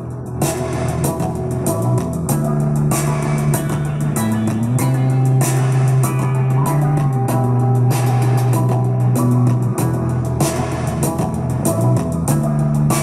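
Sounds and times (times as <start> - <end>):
band music through small speaker: 0.0 - 13.0.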